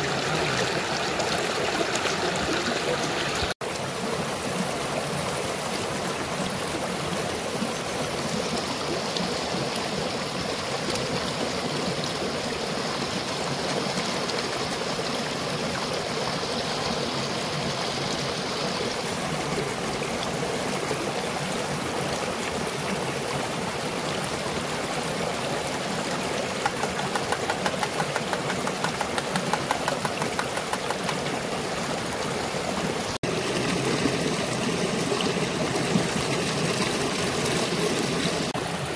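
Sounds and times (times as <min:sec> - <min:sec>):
river running over rocks: 0:00.0 - 0:16.4, 0:18.8 - 0:38.9.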